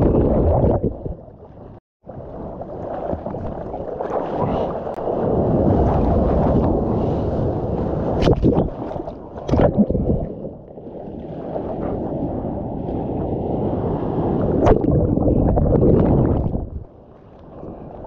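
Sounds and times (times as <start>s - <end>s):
muffled water rushing: 0.0s - 18.0s.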